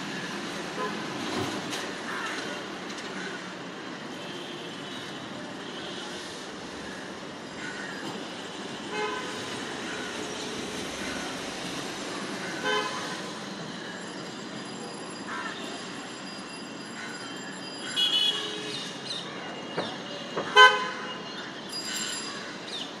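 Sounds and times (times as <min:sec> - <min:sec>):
steady traffic: 0:00.0 - 0:23.0.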